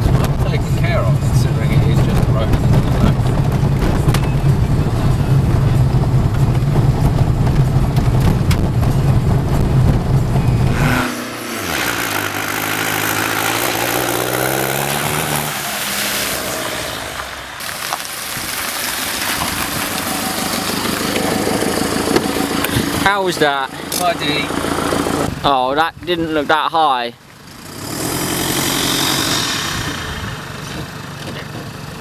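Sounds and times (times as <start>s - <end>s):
car engine revving: 0.0s - 26.7s, 27.4s - 32.0s
car rumbling on gravel track: 0.0s - 32.0s.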